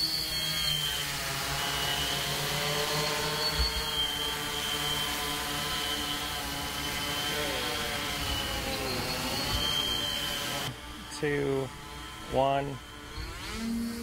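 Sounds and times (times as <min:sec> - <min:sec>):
drone buzzing whine: 0:00.0 - 0:14.0.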